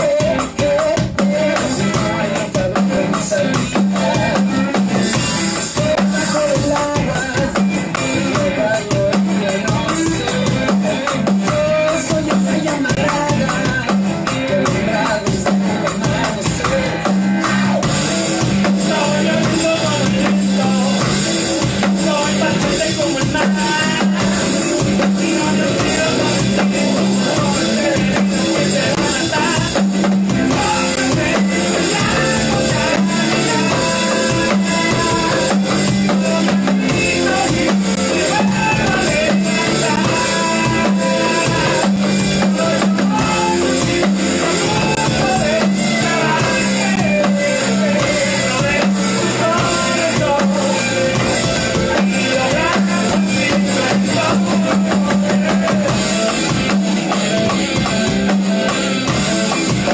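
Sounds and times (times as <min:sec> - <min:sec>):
alternative rock song: 0:00.0 - 0:59.9
electronic drum kit beat: 0:00.0 - 0:59.9.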